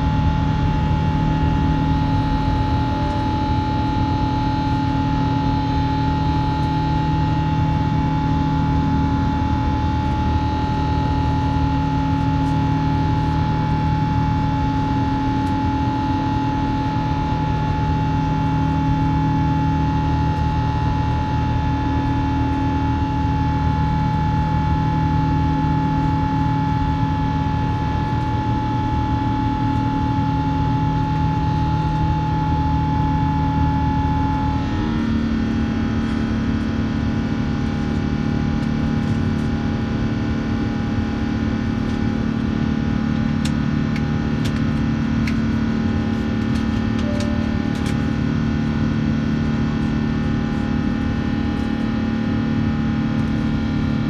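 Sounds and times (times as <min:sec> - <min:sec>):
jet engines in cabin: 0:00.0 - 0:54.0.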